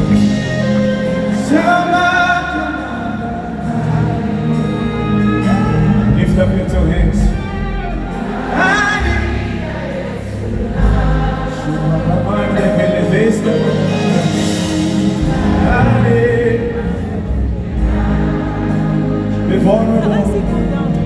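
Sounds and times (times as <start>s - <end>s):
instrumental backing: 0.0s - 21.0s
voices singing gospel: 0.0s - 21.0s.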